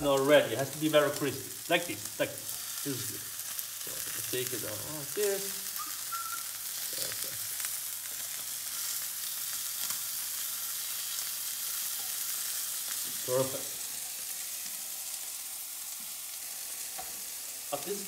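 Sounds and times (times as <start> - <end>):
chicken sizzling in a frying pan: 0.0 - 18.0.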